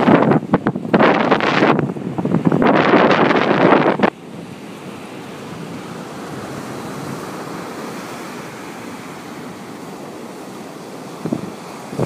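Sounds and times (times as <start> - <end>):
surf breaking on beach: 0.0 - 12.0
wind: 0.0 - 12.0.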